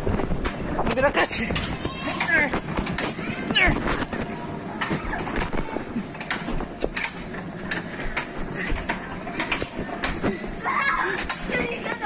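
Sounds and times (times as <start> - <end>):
indoor play area din: 0.0 - 12.0.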